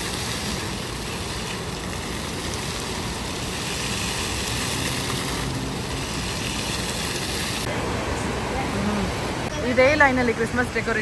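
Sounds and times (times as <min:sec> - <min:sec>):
fountain water rushing: 0:00.0 - 0:11.0.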